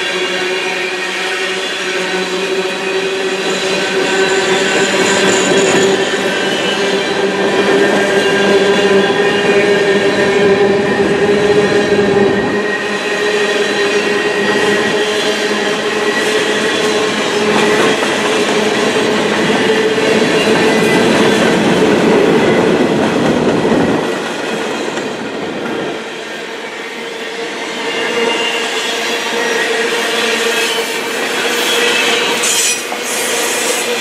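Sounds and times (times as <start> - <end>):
wheels squealing on rails: 0.0 - 34.0.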